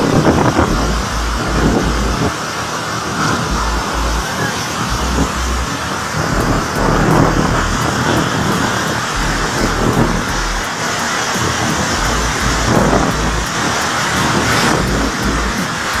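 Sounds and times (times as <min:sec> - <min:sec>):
strong wind and driving rain: 0:00.0 - 0:16.0
wind buffeting microphone: 0:00.0 - 0:16.0.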